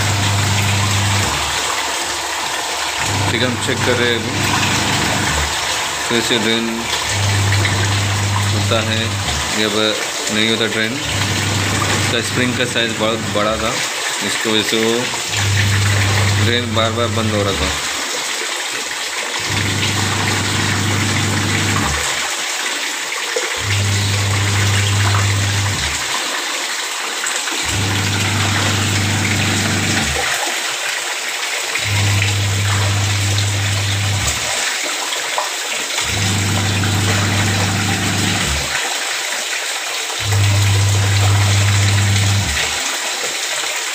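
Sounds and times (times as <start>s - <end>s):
washing machine motor humming: 0.0s - 18.1s, 19.4s - 22.4s, 23.5s - 26.3s, 27.5s - 30.6s, 31.8s - 34.7s, 36.0s - 38.9s, 40.2s - 42.9s
water pouring into tub: 0.0s - 43.9s.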